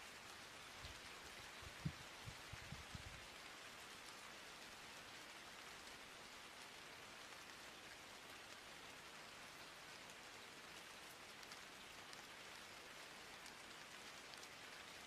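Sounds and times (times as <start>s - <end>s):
faint steady recording hiss: 0.0s - 15.0s.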